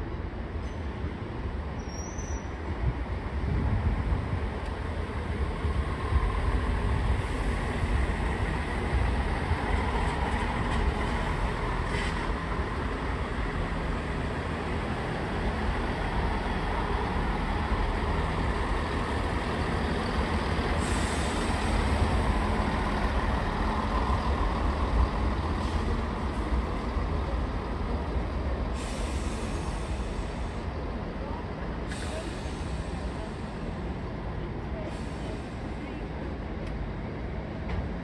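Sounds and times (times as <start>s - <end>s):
train rumble: 0.0s - 38.0s.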